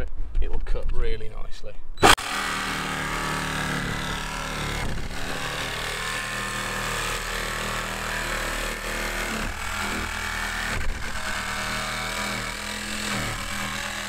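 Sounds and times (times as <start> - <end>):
jigsaw sawing through sheet steel: 2.0 - 14.0.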